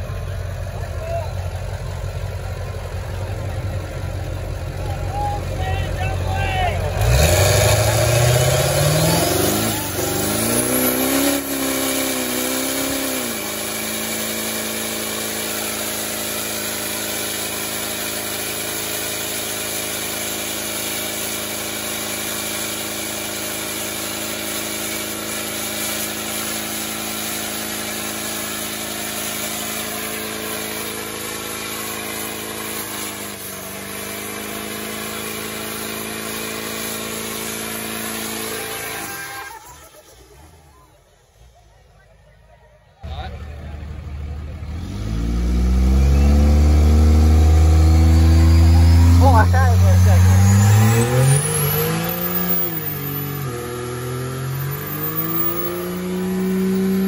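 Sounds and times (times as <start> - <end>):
diesel truck engine revving: 0.0 - 42.1, 43.0 - 57.0.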